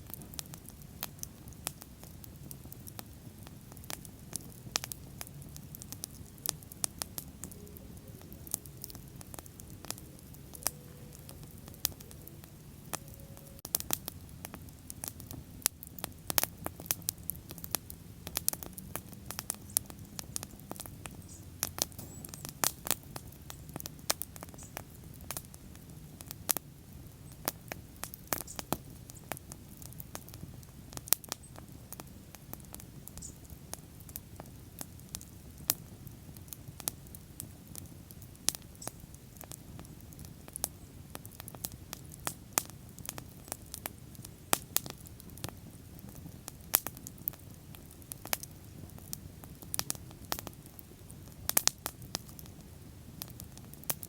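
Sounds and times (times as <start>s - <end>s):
bonfire flames rushing: 0.0s - 54.0s
fire crackling and popping: 0.0s - 54.0s.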